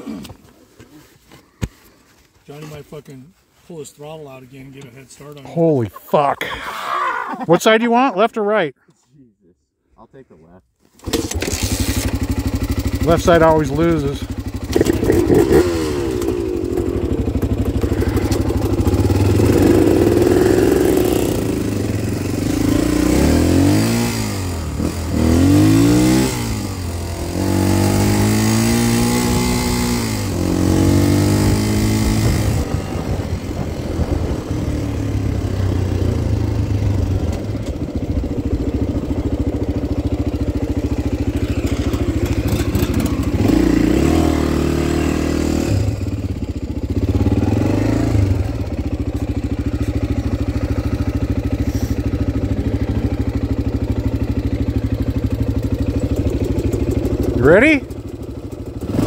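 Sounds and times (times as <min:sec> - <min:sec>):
dirt bike engine revving: 0:11.0 - 0:59.0.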